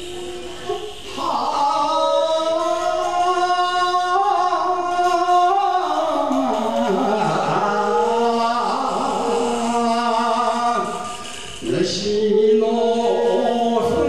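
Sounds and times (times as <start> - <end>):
man singing into a microphone: 1.0 - 14.0.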